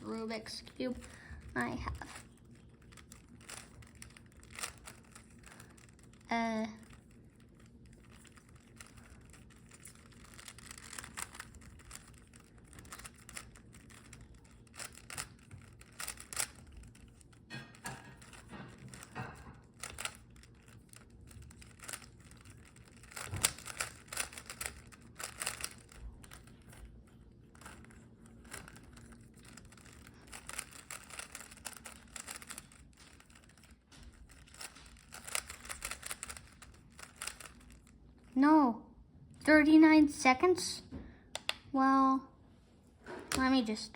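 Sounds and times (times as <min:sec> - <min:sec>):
puzzle cube clicking: 0:01.0 - 0:26.8, 0:27.5 - 0:37.9.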